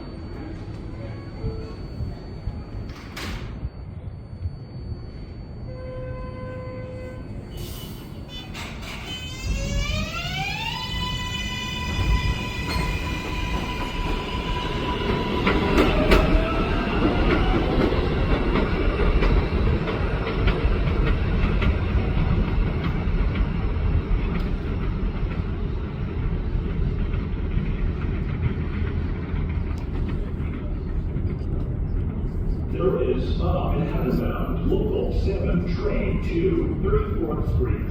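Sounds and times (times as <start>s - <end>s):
train wheels rumbling and clacking: 0.0s - 4.0s, 7.3s - 37.9s.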